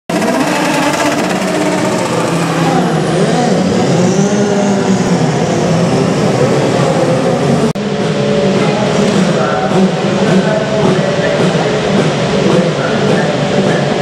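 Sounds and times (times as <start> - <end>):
racing car engines: 0.1 - 14.0.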